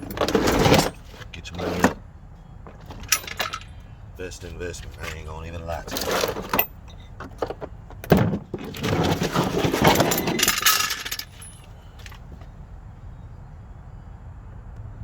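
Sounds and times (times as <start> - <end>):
metal clinking and rattling: 0.0 - 12.5.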